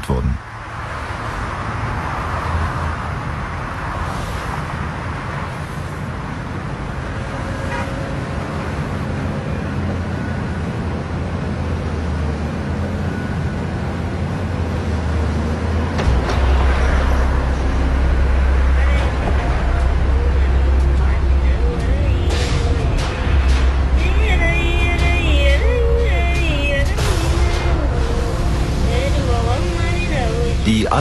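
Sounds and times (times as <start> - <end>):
city street rumble: 0.0 - 31.0.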